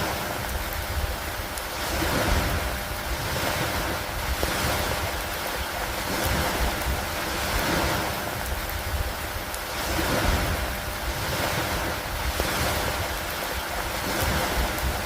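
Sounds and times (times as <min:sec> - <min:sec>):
steady rain falling: 0:00.0 - 0:15.0
wind rumbling on microphone: 0:00.0 - 0:15.0.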